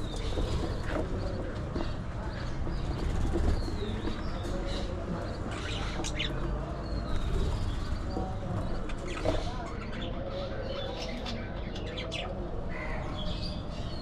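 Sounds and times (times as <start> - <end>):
budgies chirping and chattering: 0.0 - 14.0.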